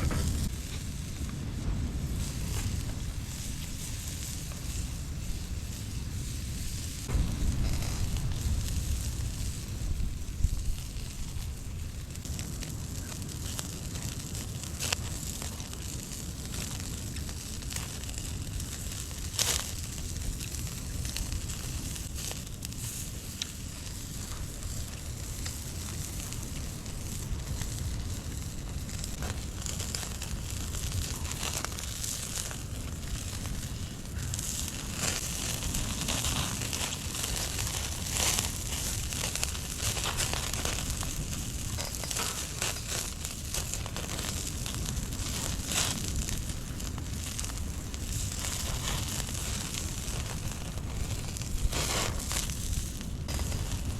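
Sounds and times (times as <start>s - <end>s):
low fire rumble: 0.0s - 53.9s
wood fire crackling: 0.0s - 53.9s.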